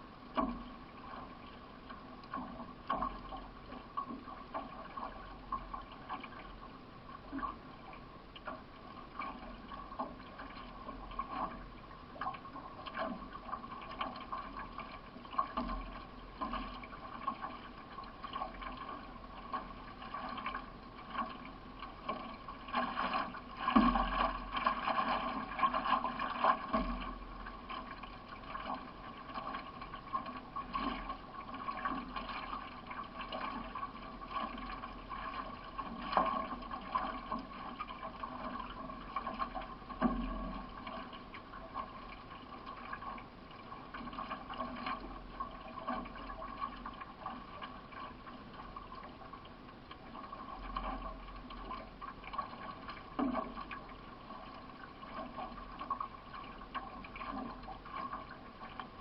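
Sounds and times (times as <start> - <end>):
paddle strokes in water: 0.0 - 59.0
water washing along hull: 0.0 - 59.0.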